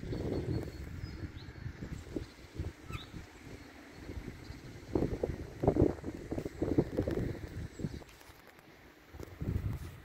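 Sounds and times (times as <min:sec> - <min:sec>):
wind buffeting microphone: 0:00.0 - 0:08.1, 0:09.1 - 0:10.0.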